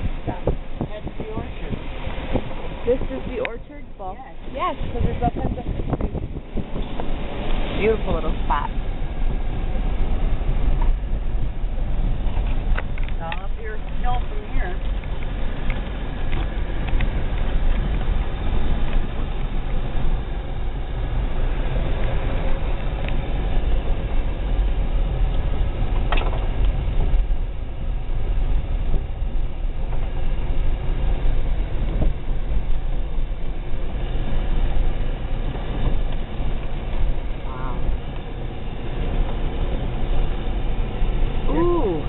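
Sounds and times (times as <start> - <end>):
engine and tyres rumbling: 0.0 - 42.0.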